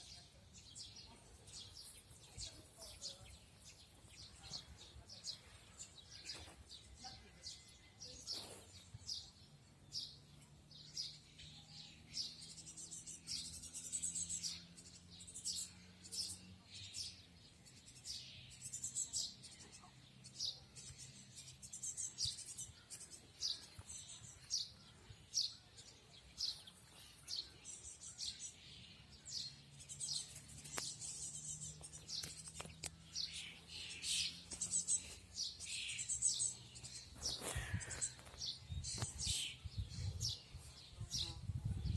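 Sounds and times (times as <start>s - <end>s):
small songbirds chirping: 0.0s - 41.9s.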